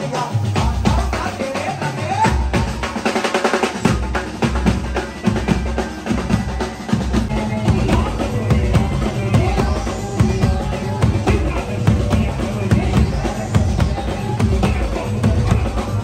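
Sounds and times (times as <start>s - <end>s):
drum rolls and fills: 0.0s - 16.0s
live band music: 0.0s - 16.0s.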